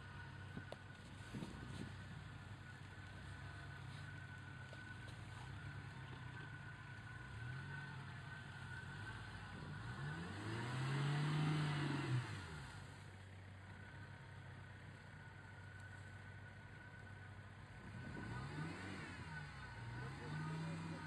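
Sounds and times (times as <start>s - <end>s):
car engine revving: 0.0s - 13.2s, 16.8s - 21.0s.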